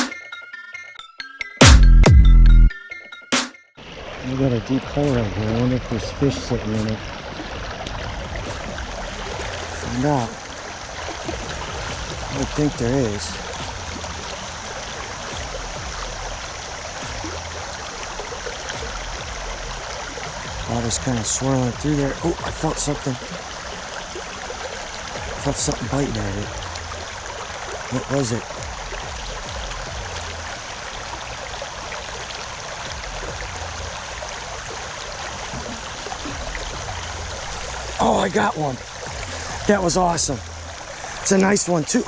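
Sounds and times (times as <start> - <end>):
river current rushing: 3.8 - 42.0.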